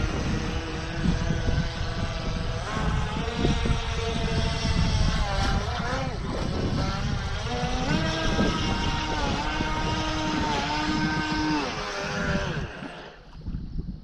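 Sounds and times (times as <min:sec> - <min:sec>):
model boat motor whining: 0:00.0 - 0:13.3.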